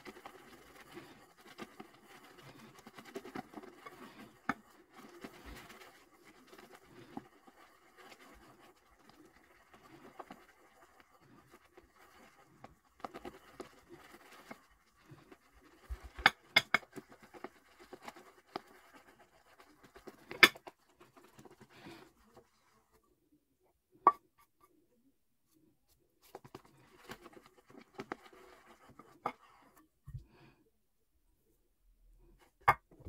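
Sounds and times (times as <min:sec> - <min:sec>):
shaving brush swishing lather: 0:00.0 - 0:23.0, 0:26.2 - 0:29.8.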